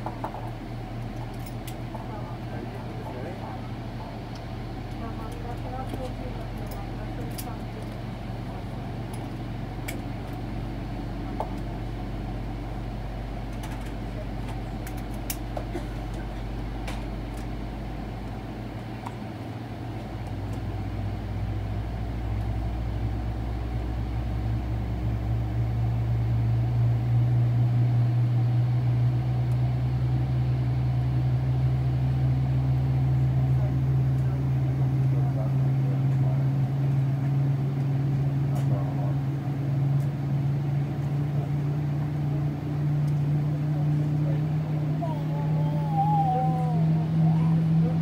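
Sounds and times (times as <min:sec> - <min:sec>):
aircraft cabin hum: 0:00.0 - 0:48.0.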